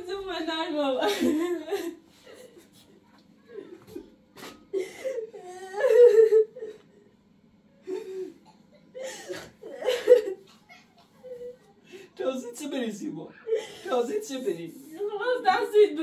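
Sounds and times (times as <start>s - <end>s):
faint steady low hum: 0.0s - 16.0s.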